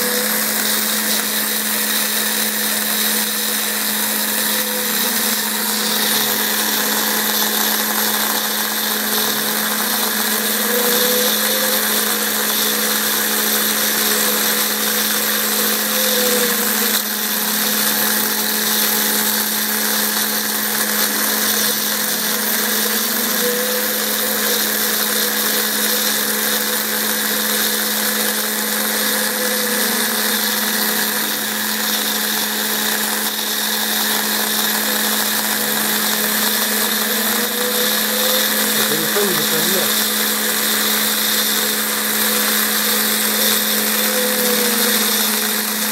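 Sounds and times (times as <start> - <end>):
motor whine: 0.0 - 45.9
router spindle humming: 0.0 - 45.9.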